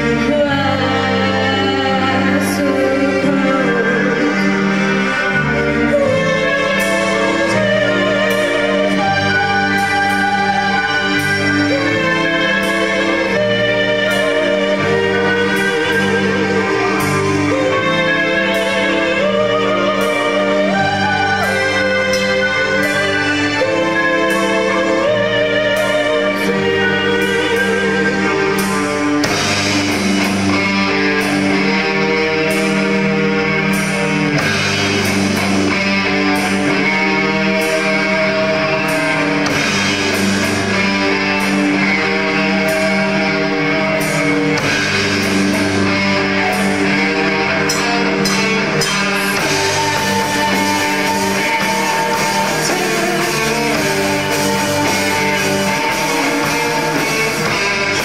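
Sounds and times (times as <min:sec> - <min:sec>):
drums: 0:00.0 - 0:58.0
electric guitar chords: 0:00.0 - 0:58.0.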